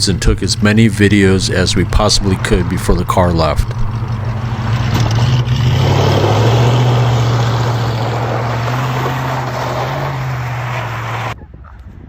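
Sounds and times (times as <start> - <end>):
car engine droning: 0.0 - 11.4.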